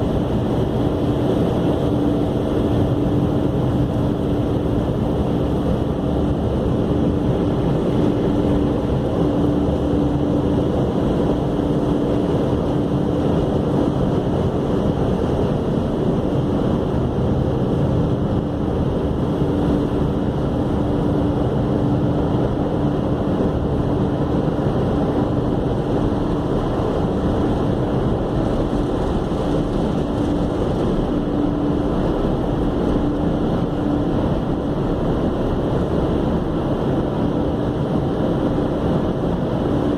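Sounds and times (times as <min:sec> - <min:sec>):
constant hum: 0:00.0 - 0:39.9.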